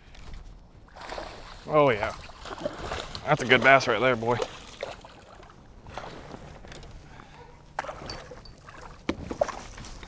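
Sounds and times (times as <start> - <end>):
faint water sloshing: 0.1 - 10.0.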